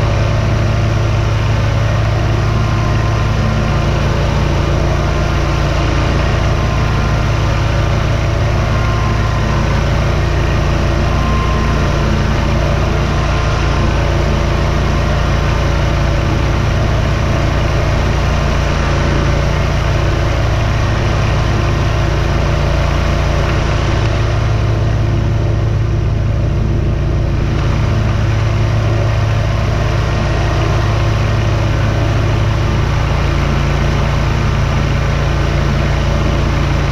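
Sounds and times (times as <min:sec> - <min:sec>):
mower engine running: 0:00.0 - 0:36.9.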